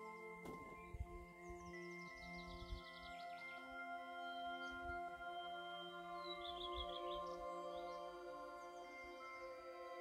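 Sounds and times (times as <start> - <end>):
bird chirps: 0.0 - 9.3
soft ambient music: 0.0 - 10.0.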